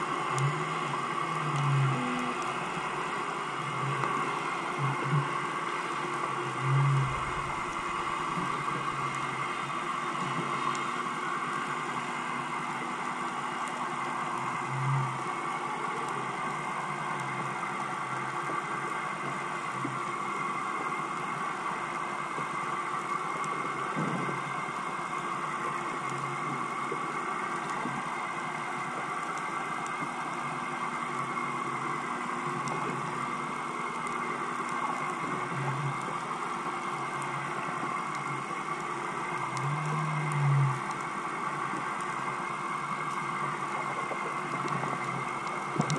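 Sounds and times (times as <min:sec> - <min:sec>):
underwater boat engine hum: 0:00.0 - 0:45.9.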